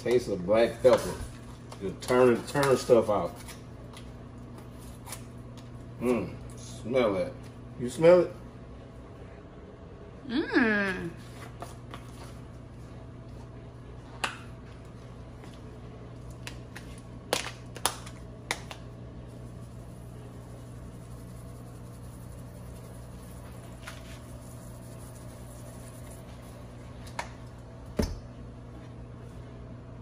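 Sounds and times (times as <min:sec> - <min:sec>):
low kitchen hum: 0:00.0 - 0:30.0.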